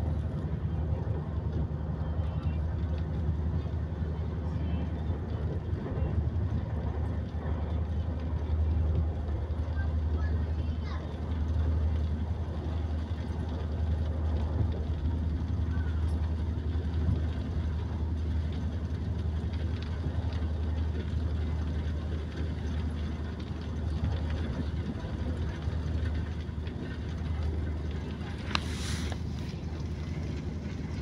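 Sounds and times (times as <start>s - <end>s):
moving train rumble: 0.0s - 31.0s.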